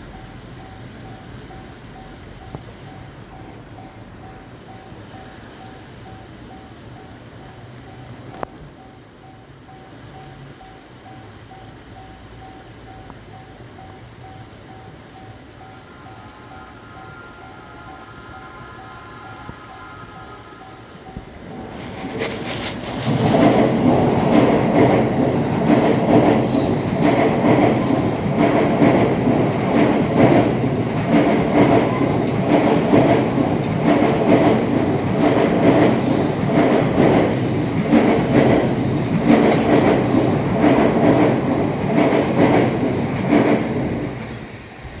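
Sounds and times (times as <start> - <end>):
train wheels clacking on rails: 0.0 - 45.0.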